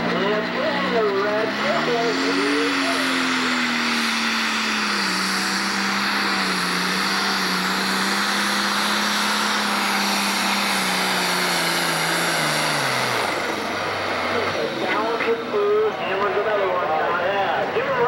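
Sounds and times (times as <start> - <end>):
diesel engine roaring under load: 0.0 - 18.0.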